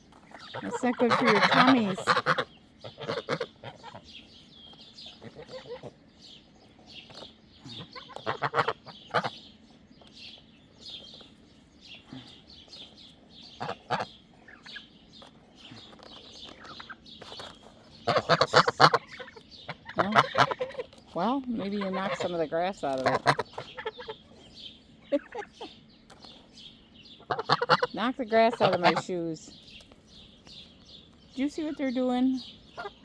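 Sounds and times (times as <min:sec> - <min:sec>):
louder poultry calls: 0:00.0 - 0:06.5, 0:07.1 - 0:09.6, 0:11.9 - 0:15.0, 0:15.6 - 0:29.6, 0:31.4 - 0:33.0
poultry chirping and peeping: 0:00.0 - 0:33.0.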